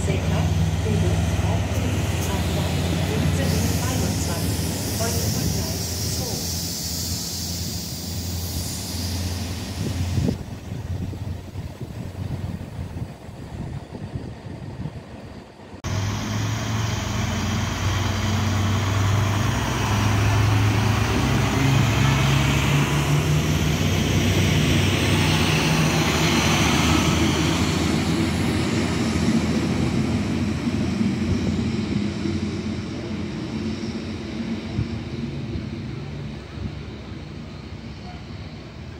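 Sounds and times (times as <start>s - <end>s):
diesel train engine drone: 0.0s - 38.9s
wheels rushing on rails: 0.0s - 38.9s.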